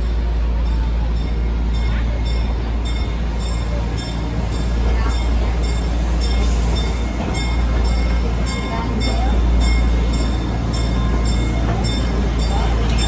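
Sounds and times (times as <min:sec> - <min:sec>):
regular rail clicking: 0:00.0 - 0:13.0
train rumble: 0:00.0 - 0:13.0.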